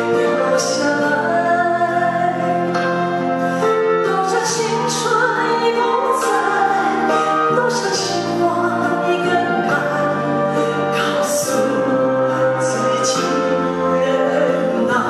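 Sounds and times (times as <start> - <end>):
musical backing: 0.0 - 15.0
woman singing into microphone: 0.0 - 15.0.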